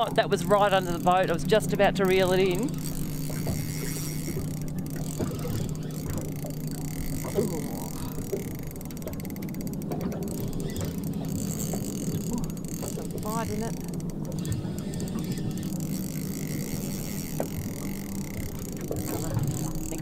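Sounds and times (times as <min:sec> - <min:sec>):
fishing reel gears ticking: 0:00.0 - 0:20.0
low engine hum: 0:00.0 - 0:20.0.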